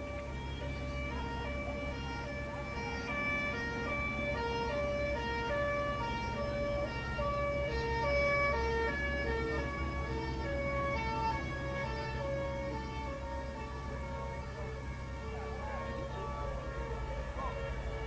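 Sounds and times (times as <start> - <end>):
steady low rumble: 0.0 - 18.0
two-tone emergency sirens: 0.0 - 18.0.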